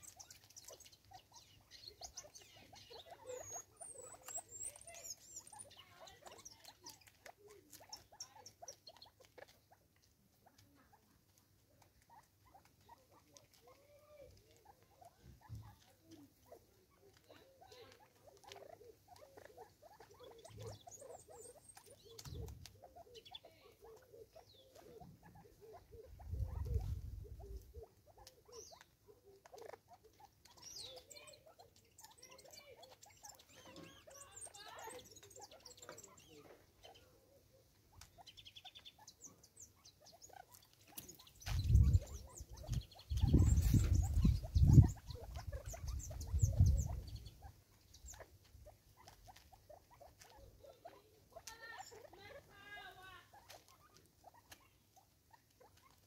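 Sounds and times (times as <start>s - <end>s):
soft bird calls: 0.0s - 56.0s.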